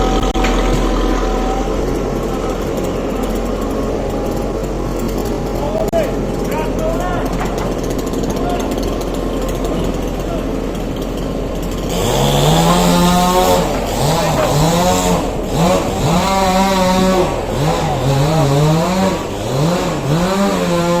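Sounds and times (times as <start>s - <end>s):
chainsaw revving: 0.0s - 21.0s.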